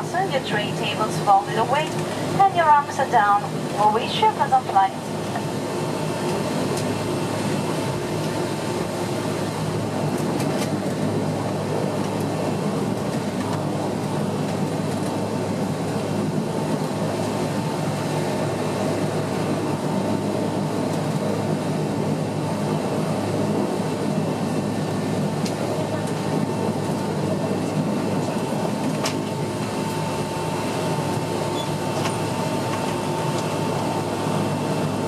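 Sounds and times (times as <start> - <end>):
turboprop engine drone: 0.0 - 35.0.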